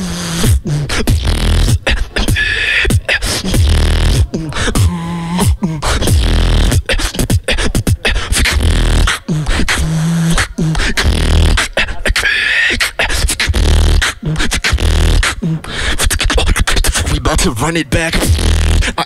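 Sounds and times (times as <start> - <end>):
beatboxing into microphone: 0.0 - 19.0.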